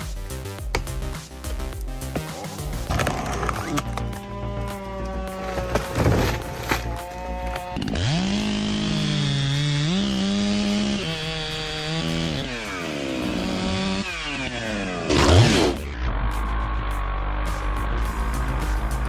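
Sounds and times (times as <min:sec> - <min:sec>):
chainsaw revving and cutting: 0:02.1 - 0:19.0.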